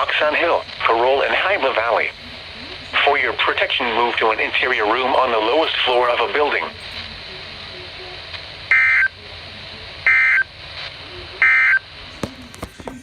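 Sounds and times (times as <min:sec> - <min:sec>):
faint radio hiss: 0:00.0 - 0:13.0.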